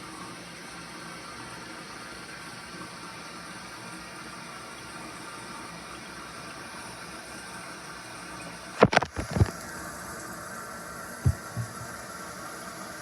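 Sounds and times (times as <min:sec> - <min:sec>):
toilet water running: 0:00.1 - 0:13.0.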